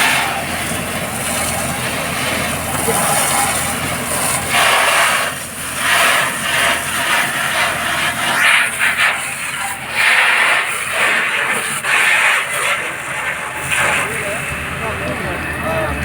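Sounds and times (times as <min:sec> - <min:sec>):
fire hose water jet rushing: 0:00.0 - 0:16.0.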